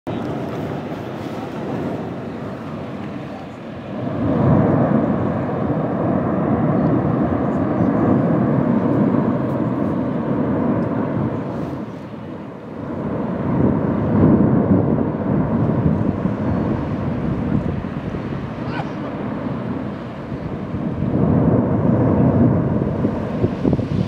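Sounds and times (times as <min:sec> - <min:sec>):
volcano deep rumble: 0:00.1 - 0:24.0.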